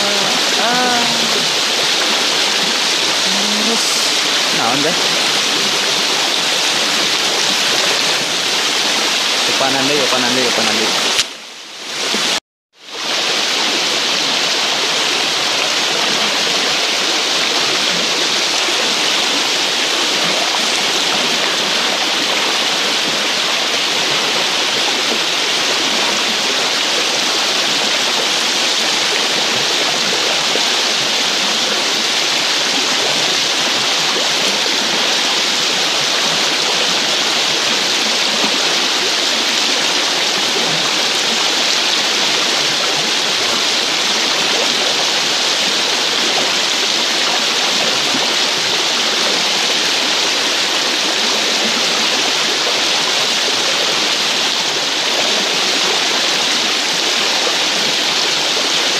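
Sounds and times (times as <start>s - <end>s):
river rushing over rocks: 0.0s - 58.9s.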